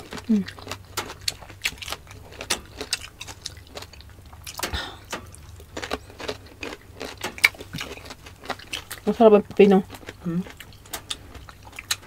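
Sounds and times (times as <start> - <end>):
cucumber crunching: 0.0 - 12.0
low steady hum: 0.0 - 12.0.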